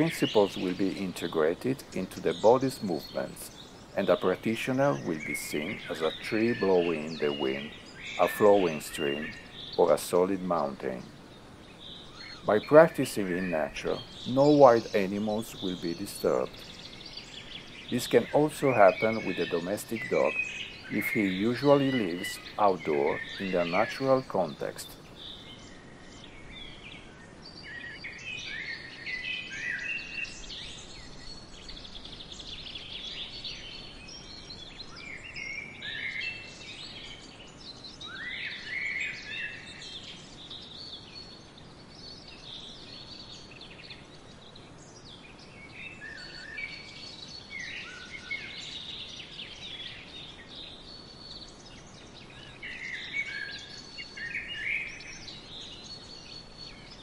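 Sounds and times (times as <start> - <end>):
faint background hiss: 0.0 - 57.0
songbirds chirping and singing: 0.0 - 57.0.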